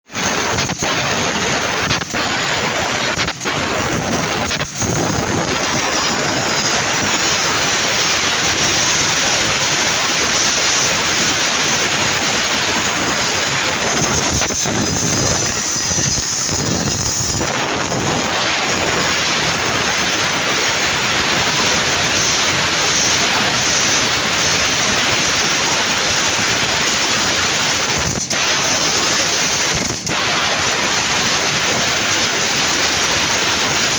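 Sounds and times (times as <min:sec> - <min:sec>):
laser cutter hissing rush: 0:00.1 - 0:33.9.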